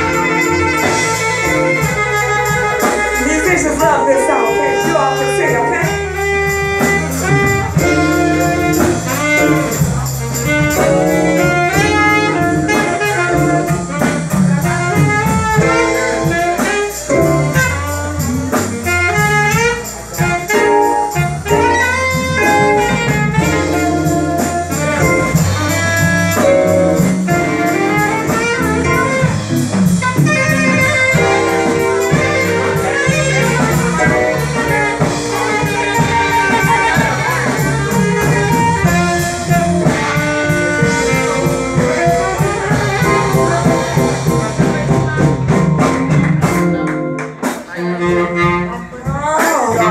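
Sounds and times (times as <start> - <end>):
melodic lead line: 0.0 - 19.3, 20.6 - 47.5
bass line: 0.0 - 49.9
drum kit beat: 0.0 - 49.9.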